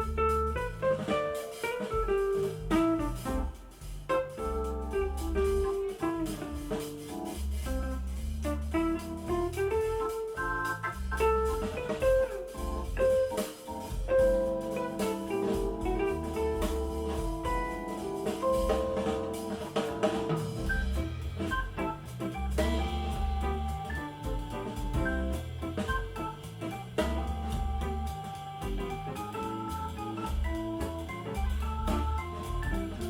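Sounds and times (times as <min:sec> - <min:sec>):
band music through speakers: 0:00.0 - 0:33.0.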